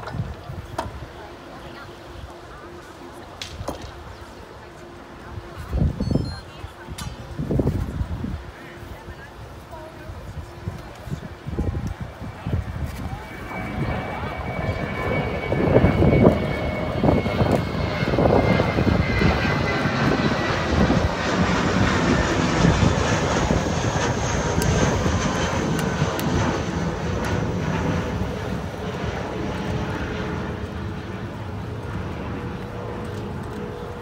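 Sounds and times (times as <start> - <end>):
jet engines passing over: 0.0 - 34.0.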